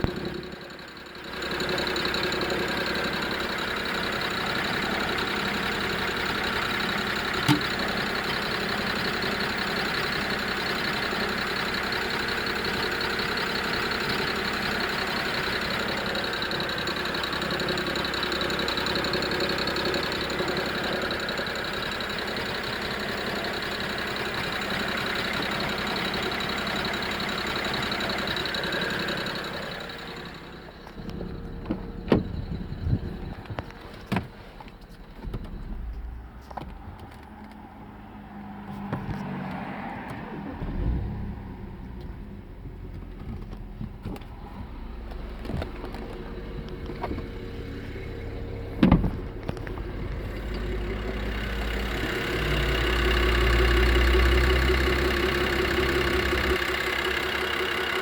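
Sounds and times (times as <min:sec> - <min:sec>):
car engine rattling drone: 0:00.0 - 0:58.0.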